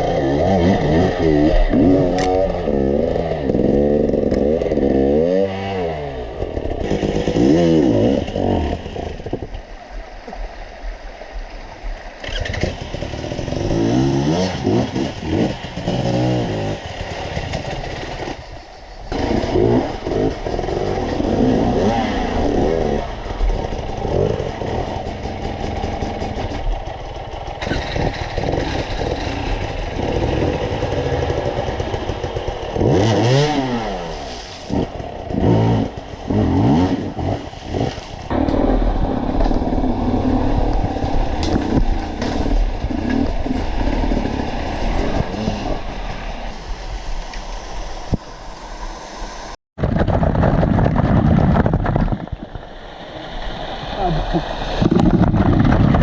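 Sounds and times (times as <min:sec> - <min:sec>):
motorcycle engine revving: 0:00.0 - 0:09.4, 0:12.2 - 0:48.3.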